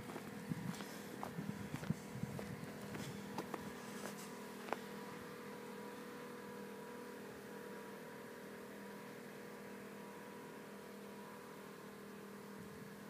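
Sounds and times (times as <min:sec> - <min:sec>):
faint mechanical hum: 0:00.0 - 0:13.0.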